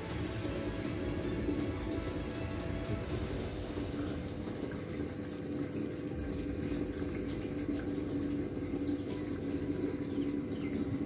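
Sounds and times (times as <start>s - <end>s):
low machine hum: 0.0s - 11.0s
water rushing into drum: 0.0s - 11.0s.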